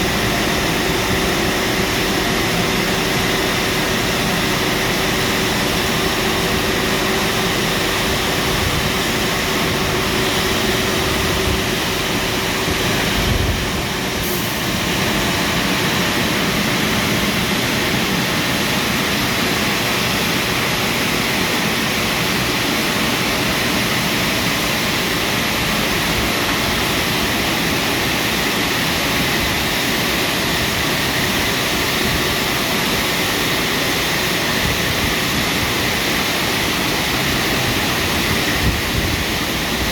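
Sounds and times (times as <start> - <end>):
car wash water jets rushing: 0.0 - 39.9.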